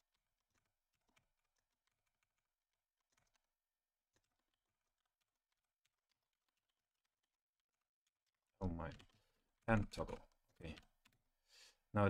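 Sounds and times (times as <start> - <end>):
computer keyboard typing: 0.0 - 11.2.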